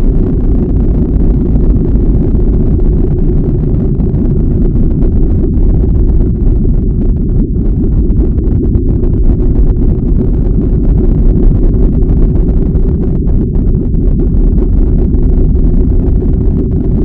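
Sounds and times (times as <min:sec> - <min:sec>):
deep rumbling noise: 0:00.0 - 0:17.0.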